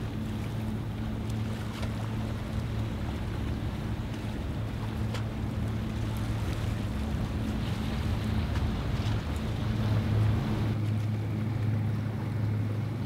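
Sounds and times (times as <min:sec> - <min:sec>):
boat engine drone: 0:00.0 - 0:13.0
water rushing along hull: 0:00.0 - 0:13.0.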